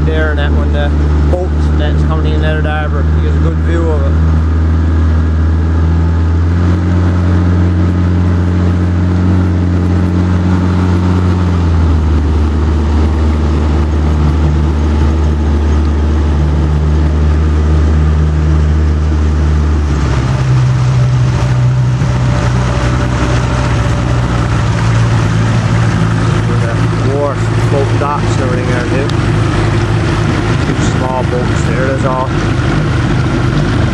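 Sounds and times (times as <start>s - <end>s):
small boat motor running: 0.0s - 33.9s.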